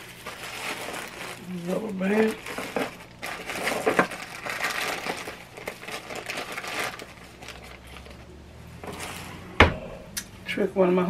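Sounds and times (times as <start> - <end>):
thin plastic crinkling: 0.0 - 9.2.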